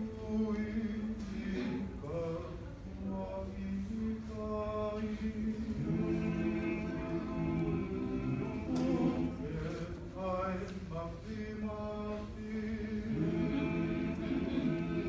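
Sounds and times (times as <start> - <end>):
group singing a cappella: 0.0 - 15.0.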